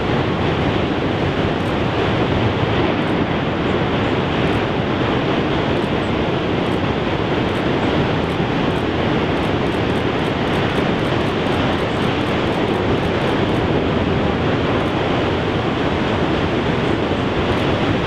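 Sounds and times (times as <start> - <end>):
heavy ocean surf: 0.0 - 18.0
wind: 0.0 - 18.0.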